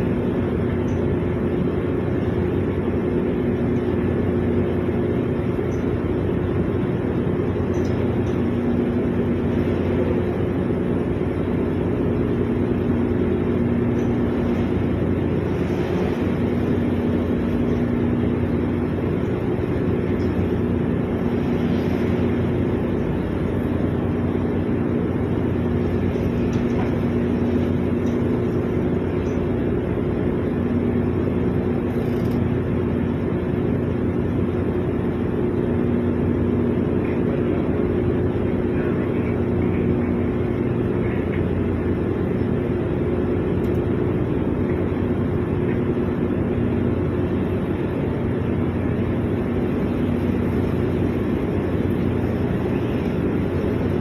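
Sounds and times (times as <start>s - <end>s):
noisy wash: 0.0s - 54.0s
ship machinery humming: 0.0s - 54.0s.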